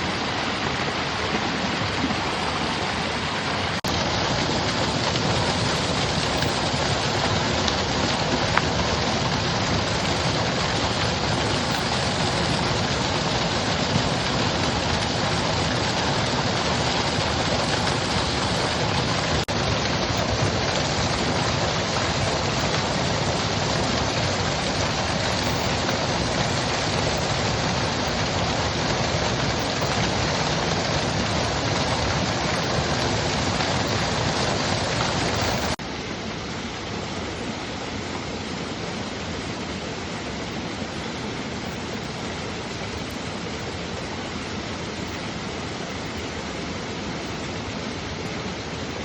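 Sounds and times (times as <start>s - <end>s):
stream water rushing: 0.0s - 49.0s.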